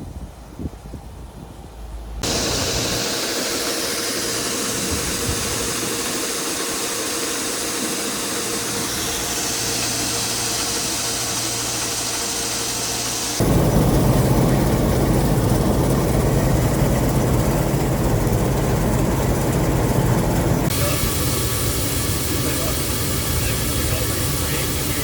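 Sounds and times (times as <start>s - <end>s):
low engine hum: 1.8s - 25.0s
machinery hissing: 2.2s - 25.0s.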